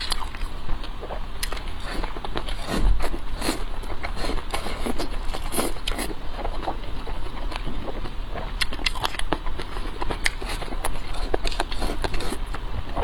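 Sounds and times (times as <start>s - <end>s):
chewing and smacking: 0.0s - 13.0s
steady low hum: 0.0s - 13.0s.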